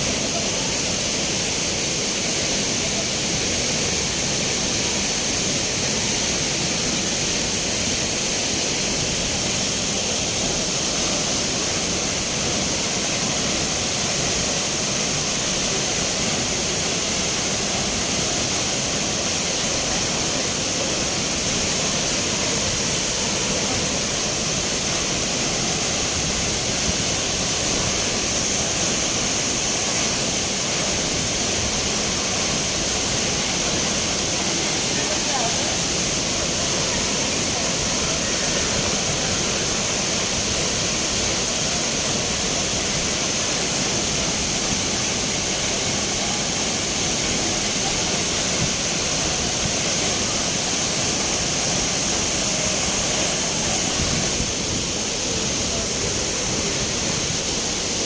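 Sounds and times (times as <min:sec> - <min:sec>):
spring water rushing and splashing: 0:00.0 - 0:58.0.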